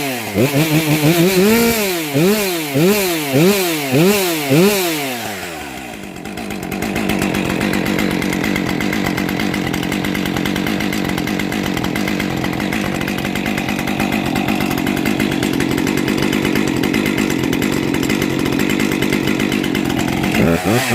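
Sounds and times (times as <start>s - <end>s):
chainsaw engine idling: 0.0s - 20.9s.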